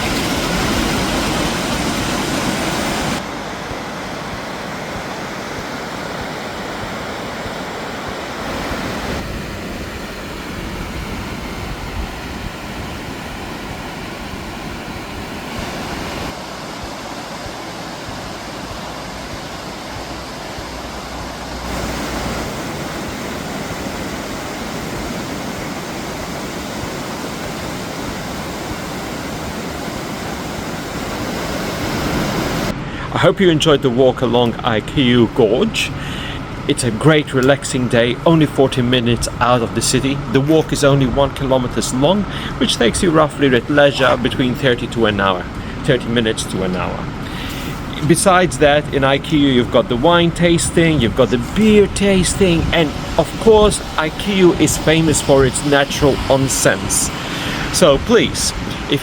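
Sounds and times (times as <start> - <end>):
river water rushing: 0.0 - 32.8, 41.3 - 59.0.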